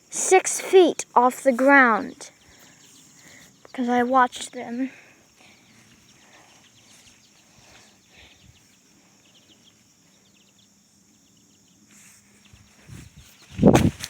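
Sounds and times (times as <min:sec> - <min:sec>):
high insect drone: 0:00.0 - 0:14.0
faint bird chirps: 0:01.4 - 0:13.8.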